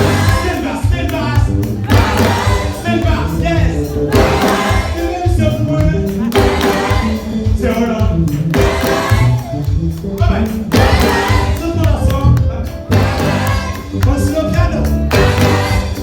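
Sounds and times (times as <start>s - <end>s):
band with pulsing bass: 0.0s - 16.0s
gospel choir singing: 0.0s - 16.0s.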